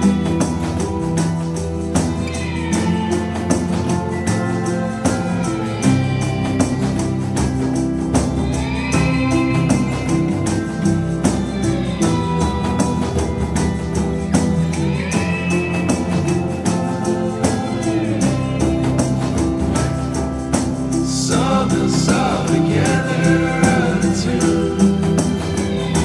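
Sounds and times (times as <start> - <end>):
instrumental music with steady beat: 0.0 - 26.0
sliding melodic line: 0.0 - 26.0.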